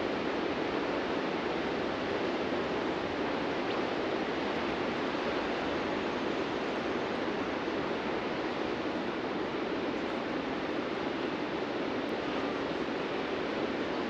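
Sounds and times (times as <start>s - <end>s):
ocean surf washing onto beach: 0.0s - 14.0s.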